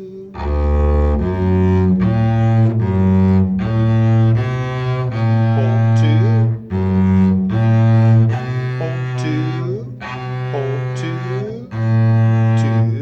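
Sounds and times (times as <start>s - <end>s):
double bass bowing: 0.0s - 13.0s.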